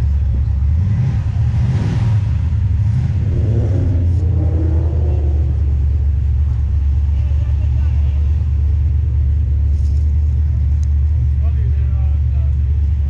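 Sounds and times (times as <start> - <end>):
car engine rumbling: 0.0 - 13.0
higher engine note: 0.0 - 13.0.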